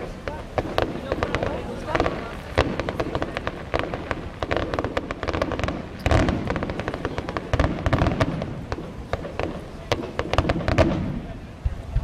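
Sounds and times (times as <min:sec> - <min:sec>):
fireworks crackling and banging: 0:00.0 - 0:12.0
heavy firework booms: 0:00.0 - 0:12.0.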